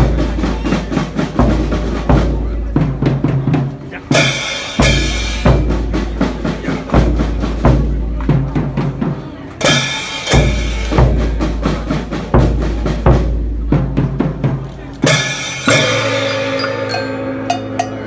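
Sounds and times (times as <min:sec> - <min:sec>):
sharp drum strokes: 0:00.0 - 0:18.0.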